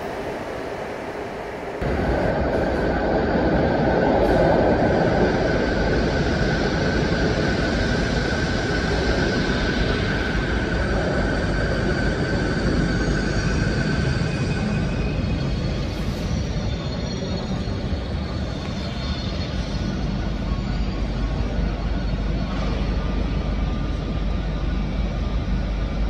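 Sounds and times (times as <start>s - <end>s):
electric train running: 0.0s - 26.0s.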